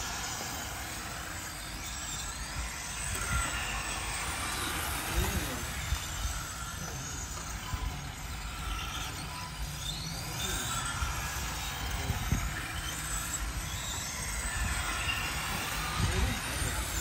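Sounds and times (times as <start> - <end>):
constant low rumble: 0.0 - 17.0
rc car motors whining: 0.0 - 17.0.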